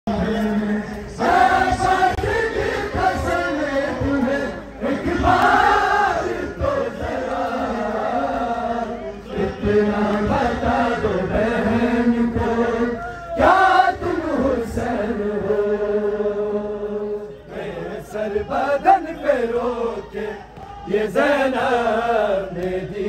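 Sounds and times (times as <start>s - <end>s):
male voices chanting a lament: 0.1s - 23.0s.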